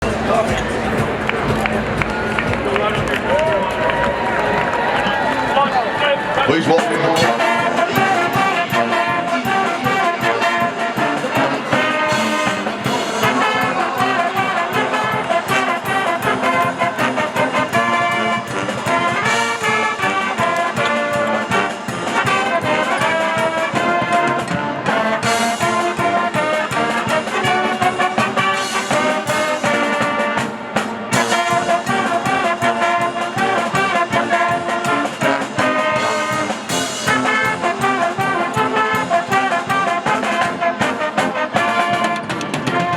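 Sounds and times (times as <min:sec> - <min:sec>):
brass band music: 0:00.0 - 0:42.9.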